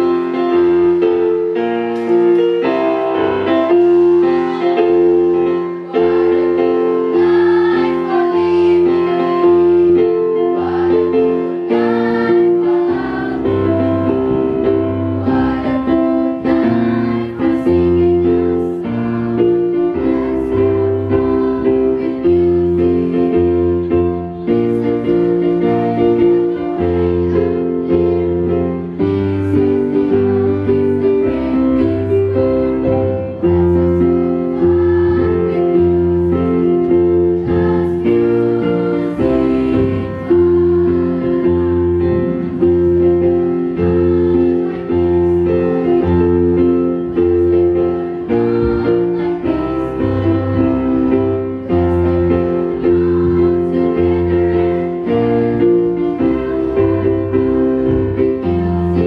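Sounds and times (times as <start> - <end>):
girls' choir singing: 0.0 - 59.0
keyboard accompaniment: 0.0 - 59.0.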